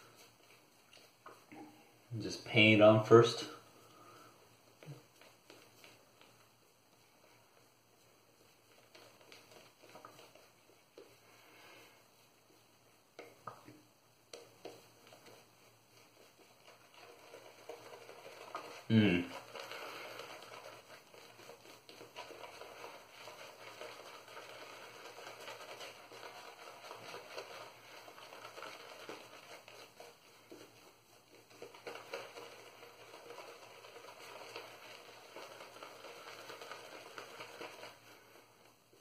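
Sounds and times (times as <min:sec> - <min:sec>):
shaving brush scrubbing lather: 0:00.0 - 0:01.5, 0:02.3 - 0:39.0.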